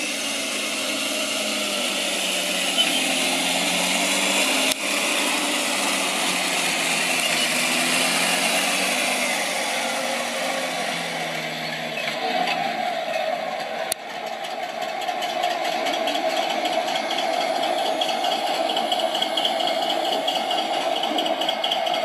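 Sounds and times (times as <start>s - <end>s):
simulated tank engine through speaker: 0.0s - 22.0s
tracks rattling: 0.0s - 22.0s.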